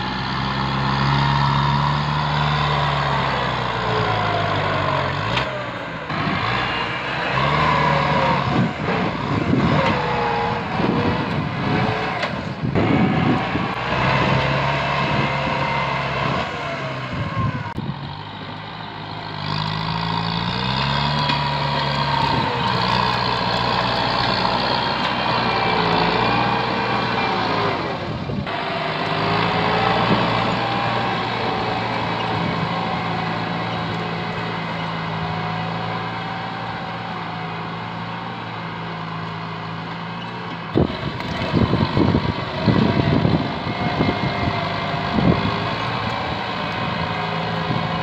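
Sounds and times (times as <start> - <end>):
tractor diesel engine working: 0.0 - 48.0.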